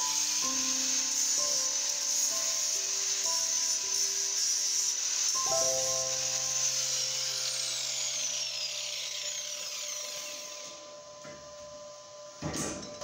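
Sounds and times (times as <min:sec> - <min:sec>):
angle grinder disc spinning down: 0:00.0 - 0:11.0.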